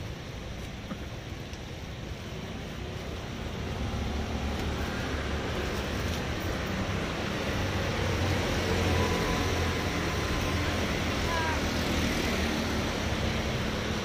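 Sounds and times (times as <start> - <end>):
scooters passing on road: 2.2 - 14.0.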